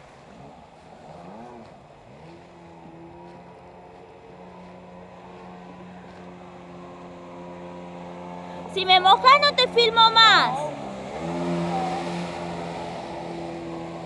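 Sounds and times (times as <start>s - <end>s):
jet ski engine: 0.0s - 14.0s.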